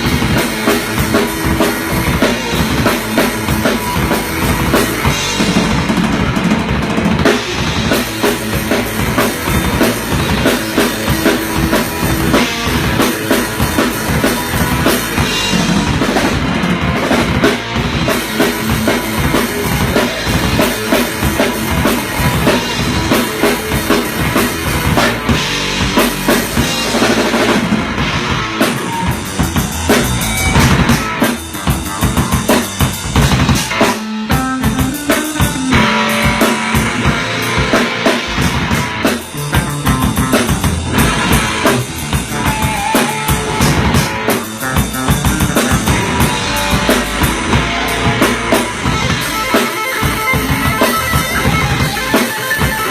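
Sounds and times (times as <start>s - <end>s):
bass drum and snare: 0.0s - 52.9s
rock music: 0.0s - 52.9s.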